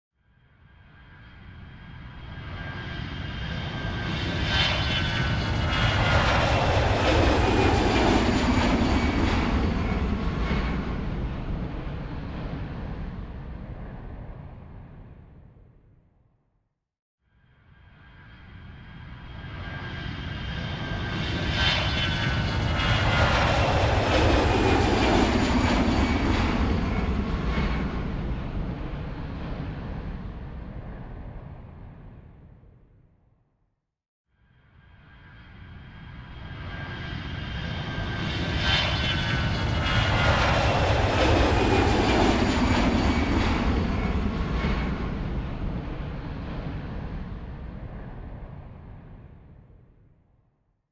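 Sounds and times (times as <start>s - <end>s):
airplane engine rumble with whine: 0.3s - 16.1s, 17.6s - 33.2s, 34.6s - 50.2s.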